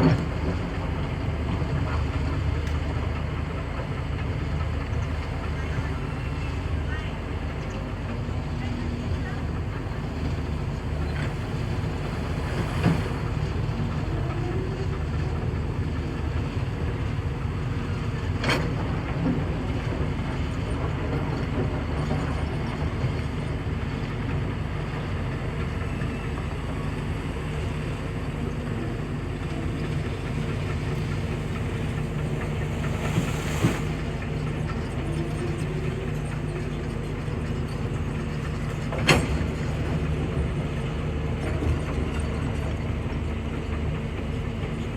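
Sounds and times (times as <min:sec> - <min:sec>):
excavator diesel engine rumbling: 0:00.0 - 0:44.9.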